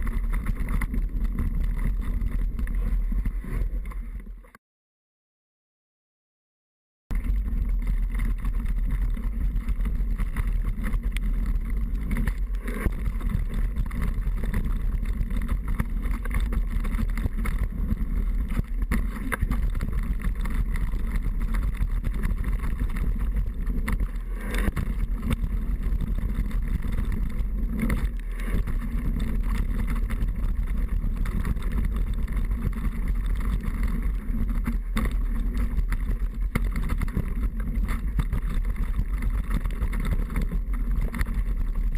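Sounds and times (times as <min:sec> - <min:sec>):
knocks and rattles of bike: 0:00.0 - 0:04.6, 0:07.1 - 0:41.9.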